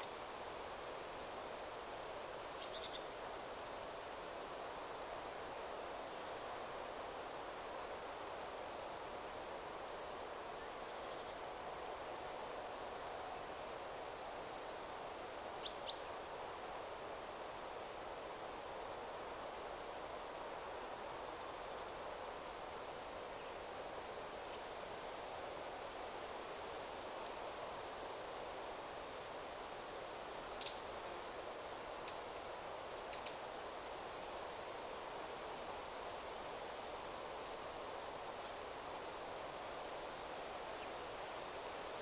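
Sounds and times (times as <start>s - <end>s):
wind rustling through trees: 0.0s - 42.0s.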